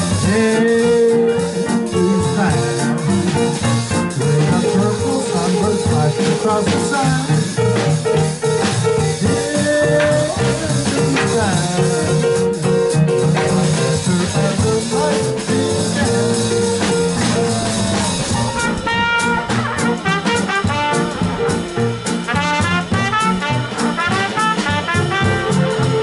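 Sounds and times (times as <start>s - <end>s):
trumpet: 0.0s - 12.4s, 13.4s - 26.0s
drum kit: 0.0s - 26.0s
piano chords: 0.0s - 26.0s.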